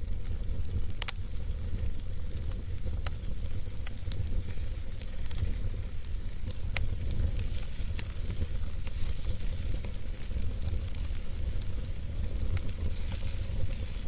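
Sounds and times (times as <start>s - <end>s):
crackles and pops of burning logs: 0.0s - 14.0s
wood fire rumbling and hissing: 0.0s - 14.0s.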